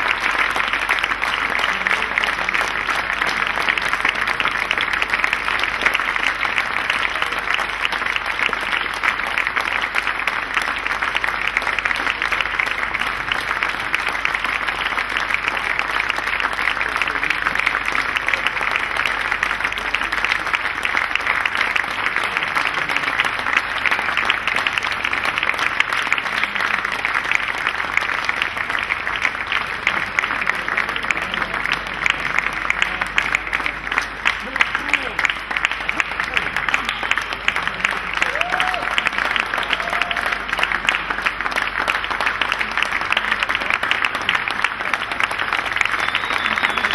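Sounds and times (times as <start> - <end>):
crowd applauding: 0.0 - 46.9.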